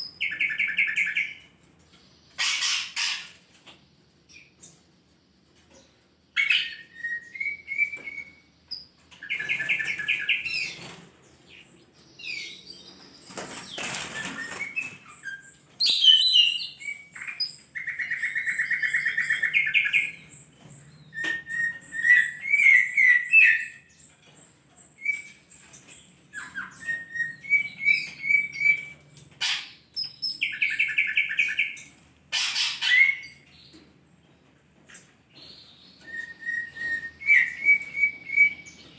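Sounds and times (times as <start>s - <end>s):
bird chirping and trilling: 0.0s - 3.7s, 5.7s - 33.8s, 34.9s - 38.9s.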